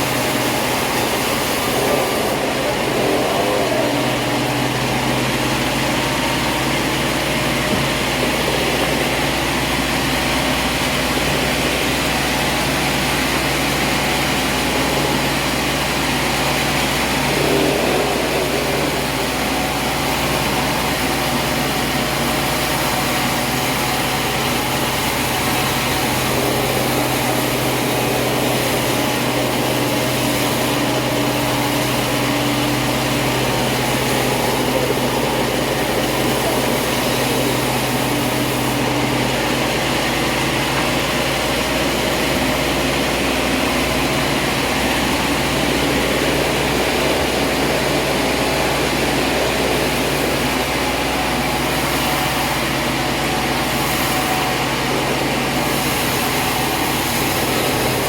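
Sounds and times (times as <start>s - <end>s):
machinery whirring: 0.0s - 58.0s
motor hum: 0.0s - 58.0s.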